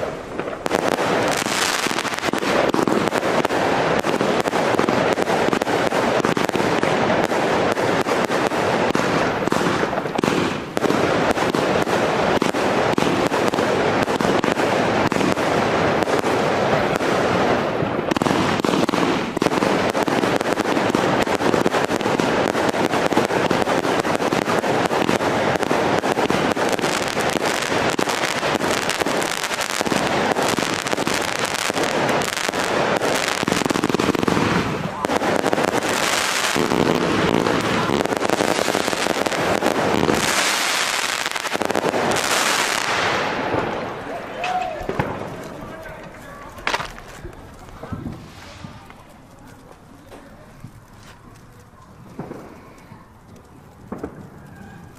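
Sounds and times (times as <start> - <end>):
firework cake firing shots: 0.0 - 54.9.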